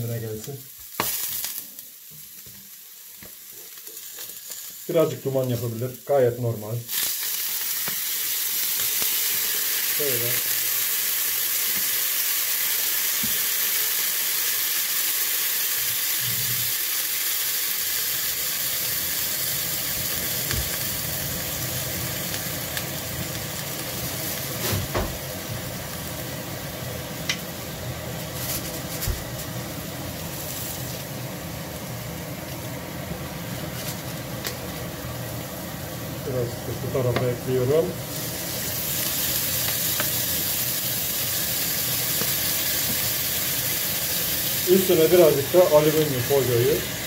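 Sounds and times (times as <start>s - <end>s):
fish frying in hot oil: 6.9s - 35.6s, 37.4s - 47.0s.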